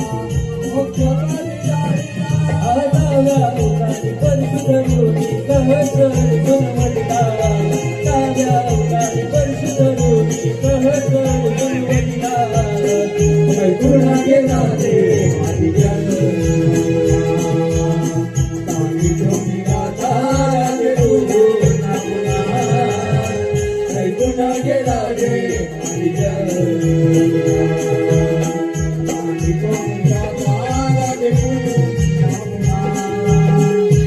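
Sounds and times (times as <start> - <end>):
jingling bells: 0.0 - 34.0.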